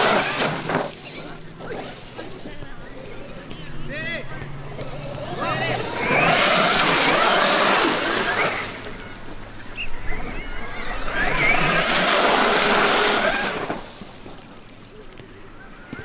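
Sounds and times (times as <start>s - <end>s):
electric motor whining: 0.0s - 3.9s, 4.5s - 14.8s
tyres on the ground: 0.0s - 16.0s.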